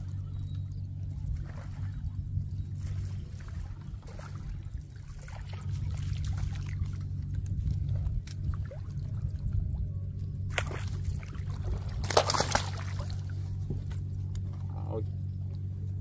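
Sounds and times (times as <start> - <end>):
water splashing and trickling: 0.0 - 15.0
steady low rumble: 0.0 - 16.0.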